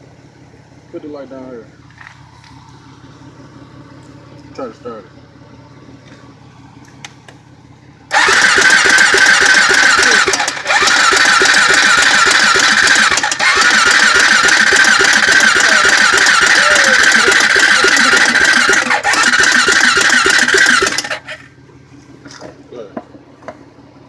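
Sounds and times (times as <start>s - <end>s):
single-cylinder engine running: 0.0s - 24.0s.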